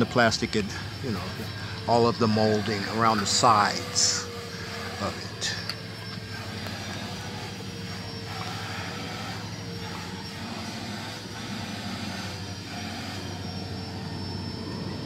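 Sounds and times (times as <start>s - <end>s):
small motor humming with whine: 0.0s - 15.0s.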